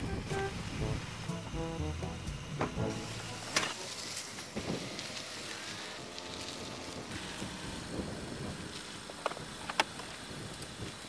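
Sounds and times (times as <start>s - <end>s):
car engine and tyres on dirt: 0.0s - 11.0s.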